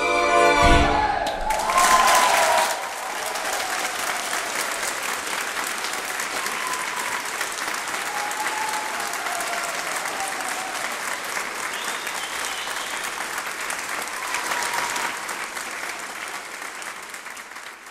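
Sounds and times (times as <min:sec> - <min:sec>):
audience applauding: 0:01.0 - 0:17.9.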